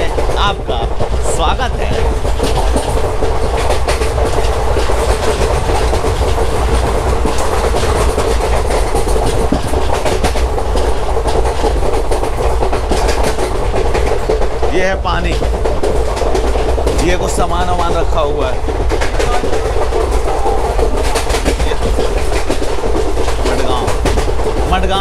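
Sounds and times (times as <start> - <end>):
train rumbling: 0.0 - 25.0
wheels clattering over rail joints: 0.0 - 25.0.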